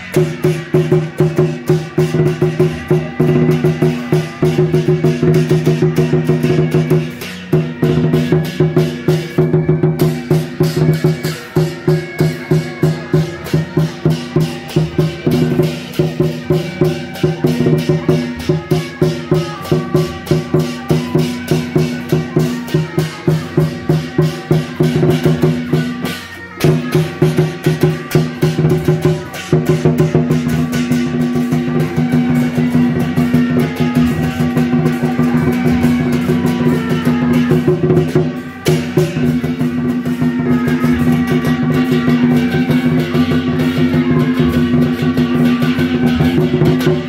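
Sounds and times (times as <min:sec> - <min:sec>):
drums and percussion: 0:00.0 - 0:47.0.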